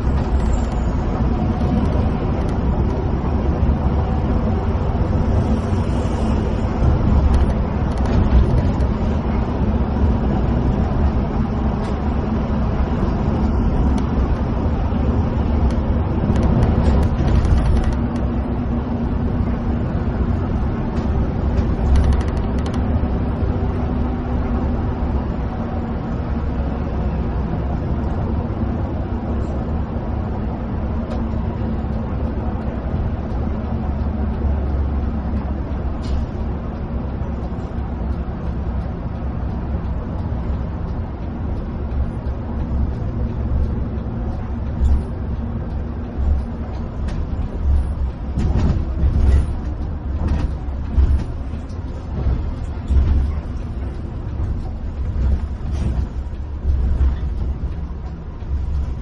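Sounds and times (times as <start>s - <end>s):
coach engine hum: 0.0s - 59.0s
road and tyre rumble: 0.0s - 59.0s.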